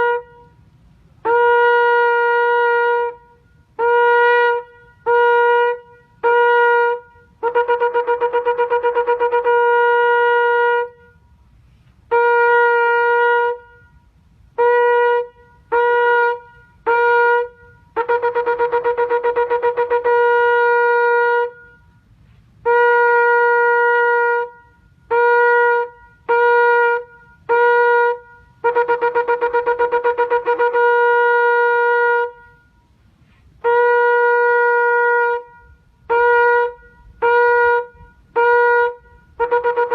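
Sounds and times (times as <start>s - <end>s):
shofar blasts: 0.0s - 0.6s, 1.2s - 11.3s, 12.1s - 33.0s, 33.6s - 39.9s.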